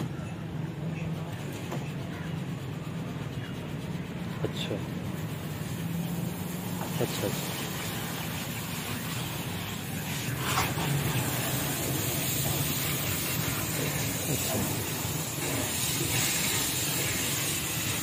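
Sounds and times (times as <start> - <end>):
hose water spraying on car: 0.6 - 18.0.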